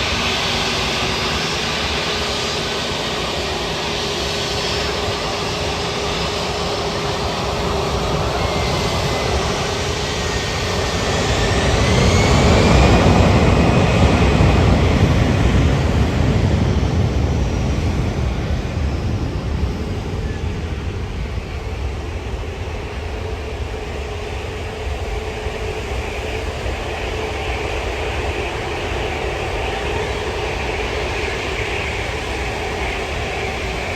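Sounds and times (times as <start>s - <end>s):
jet airliner passing: 0.0s - 33.9s.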